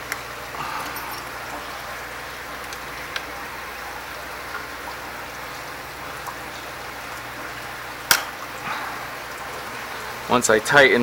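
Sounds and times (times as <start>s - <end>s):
water running from leaking seam: 0.0s - 11.0s.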